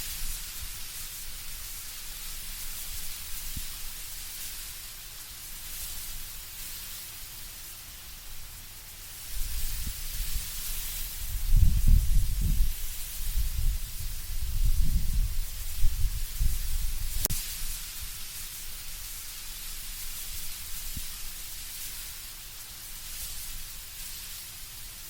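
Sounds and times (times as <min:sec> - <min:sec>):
wind rustling leaves: 0:00.0 - 0:25.0.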